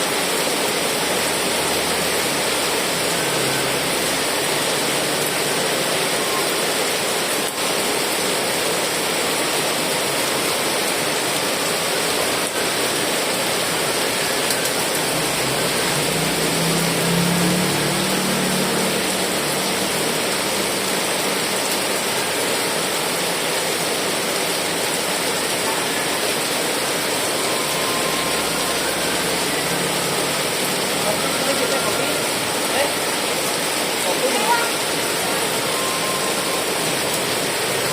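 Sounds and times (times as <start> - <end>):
heavy rain falling: 0.0 - 37.9.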